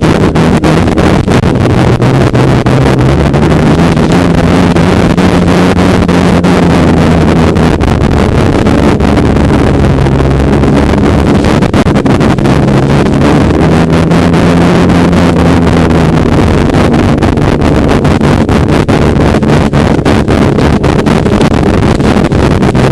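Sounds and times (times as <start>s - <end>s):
snowmobile engine running: 0.0s - 22.9s
wind rushing over microphone: 0.0s - 22.9s.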